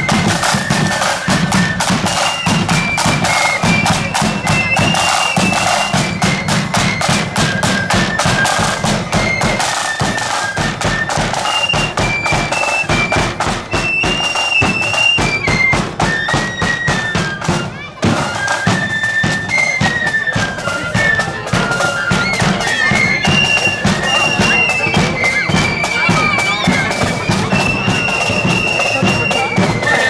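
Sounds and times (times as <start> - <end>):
shrill flutes melody: 0.0 - 30.0
side drum and bass drum beats: 0.0 - 30.0.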